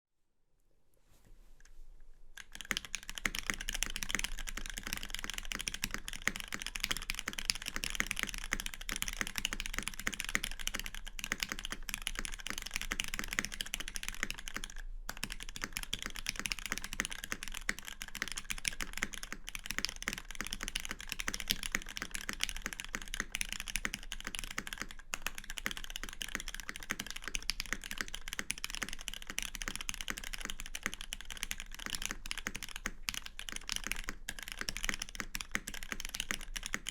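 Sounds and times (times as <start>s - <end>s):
fast typing on mechanical keyboard: 2.4s - 36.9s.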